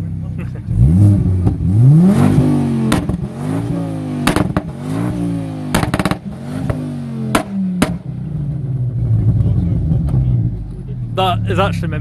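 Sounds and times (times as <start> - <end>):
car engine revving: 0.0 - 12.0
exhaust bangs and crackling: 0.0 - 12.0.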